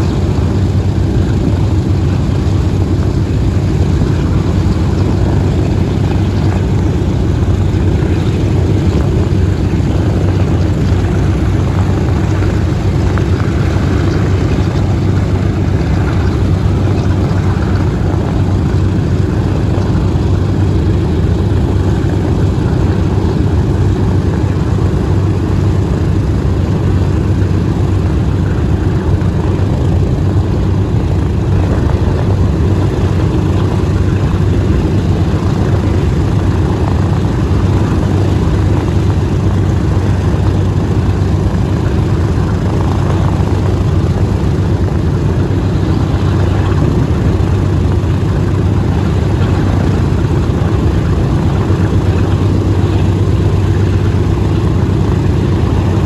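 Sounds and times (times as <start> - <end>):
aircraft radial engines idling: 0.0 - 56.0.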